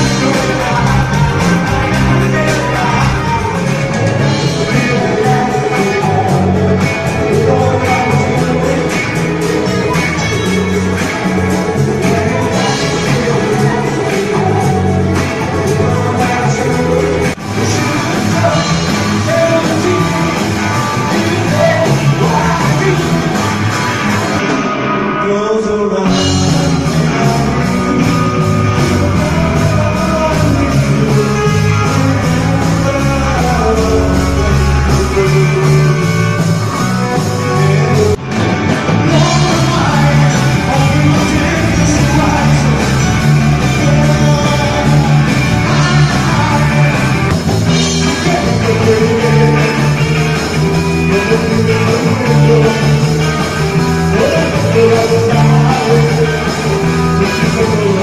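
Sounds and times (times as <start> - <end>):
person singing: 0.0 - 58.0
rock band playing: 0.0 - 58.0.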